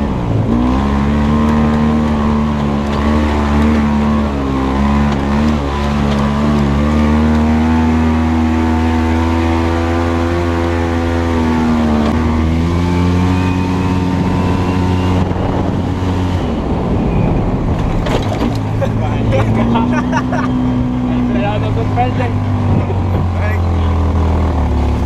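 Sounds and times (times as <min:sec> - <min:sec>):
vehicle engine running under load: 0:00.0 - 0:25.0.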